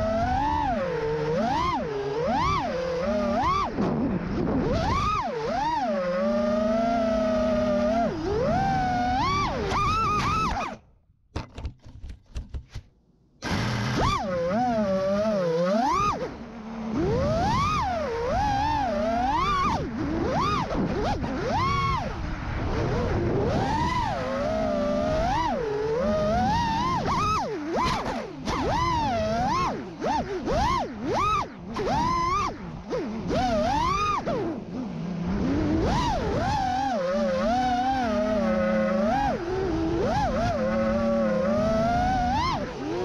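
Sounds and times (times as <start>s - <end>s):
rush of wind: 0.0s - 10.8s, 13.9s - 43.0s
drone motors whining: 0.0s - 10.9s, 13.4s - 43.0s.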